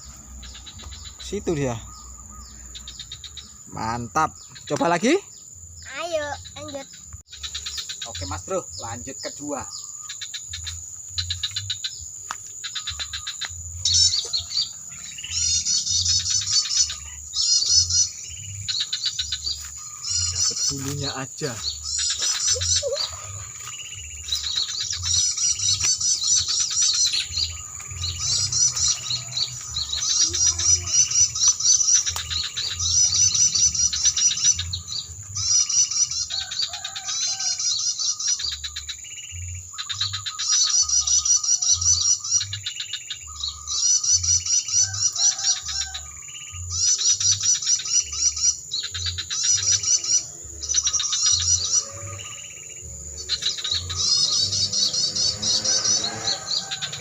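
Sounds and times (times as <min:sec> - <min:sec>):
recorded rapid bird chirping: 0:00.0 - 0:57.0.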